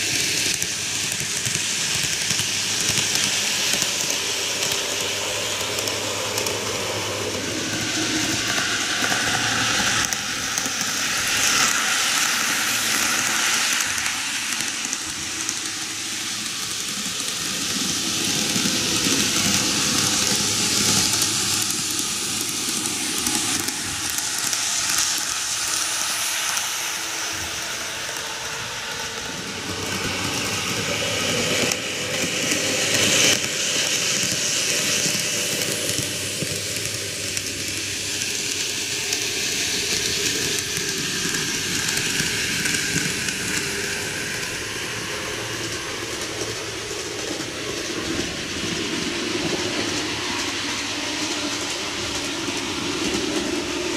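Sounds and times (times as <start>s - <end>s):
model trains rolling on rails: 0.0s - 53.9s.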